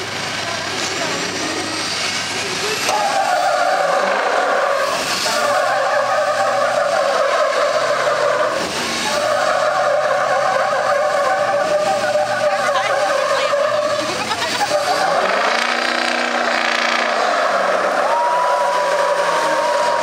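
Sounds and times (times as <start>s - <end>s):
diesel truck engines at full throttle: 0.0s - 20.0s
tires spinning on dirt: 0.0s - 20.0s.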